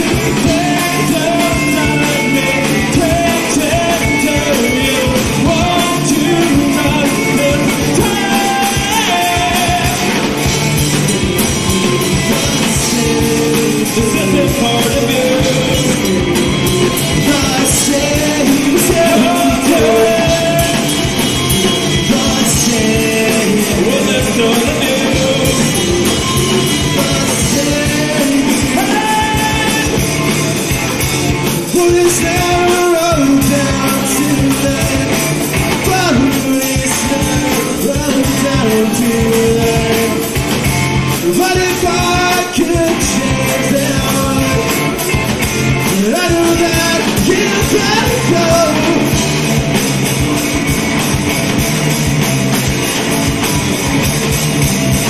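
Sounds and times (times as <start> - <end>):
person singing: 0.0 - 10.6, 11.2 - 30.7, 31.3 - 50.0
rock band playing live: 0.0 - 55.0.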